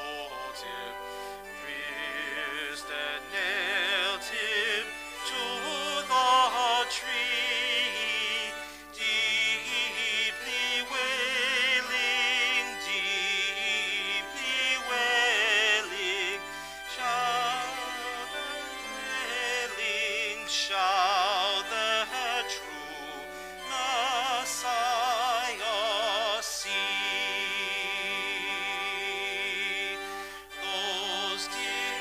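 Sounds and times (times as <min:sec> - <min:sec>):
held accompanying notes: 0:00.0 - 0:32.0
hymn sung with vibrato: 0:00.0 - 0:32.0.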